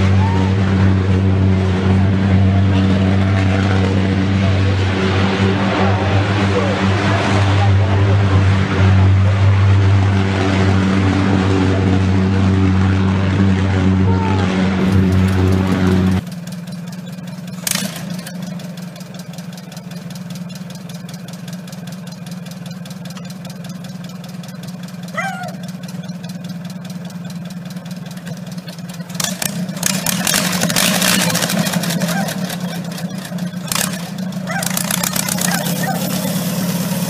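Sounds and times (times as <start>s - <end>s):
dragster engine idling and revving: 0.0s - 37.0s.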